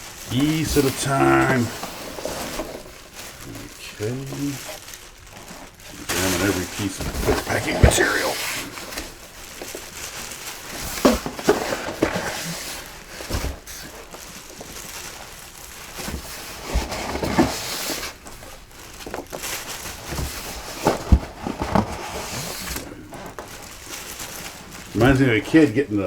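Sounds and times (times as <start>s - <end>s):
packing peanuts rustling: 0.0s - 26.0s.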